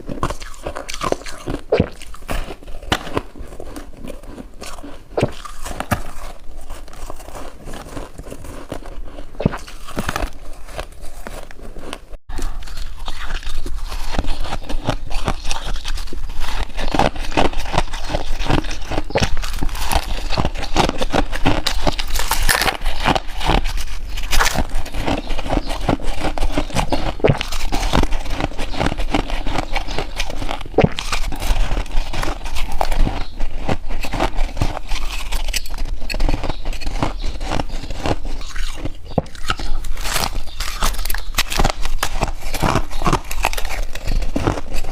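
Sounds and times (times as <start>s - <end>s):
ice crunching while chewed: 0.0s - 44.9s.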